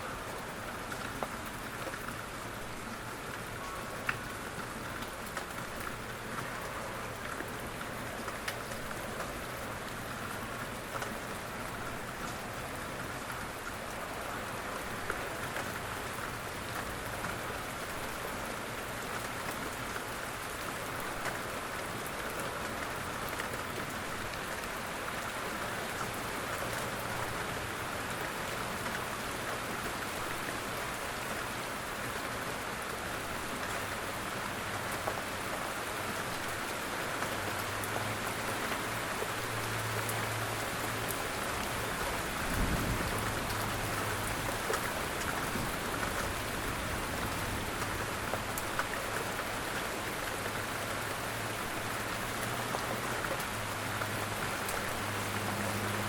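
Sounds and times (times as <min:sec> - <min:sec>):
quiet steady rain: 0:00.0 - 0:56.0
ticks of raindrops: 0:00.0 - 0:56.0.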